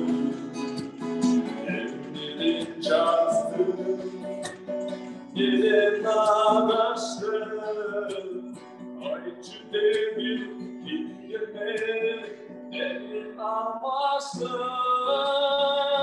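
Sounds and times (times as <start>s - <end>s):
acoustic guitar strumming: 0.0s - 16.0s
man singing: 1.2s - 4.6s, 5.3s - 16.0s.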